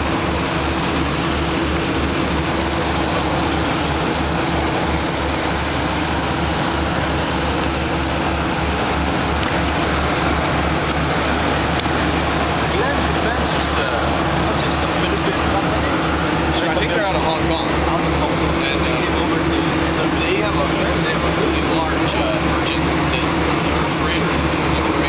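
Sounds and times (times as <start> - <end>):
boat engine rumbling: 0.0 - 25.0
water wash noise: 0.0 - 25.0.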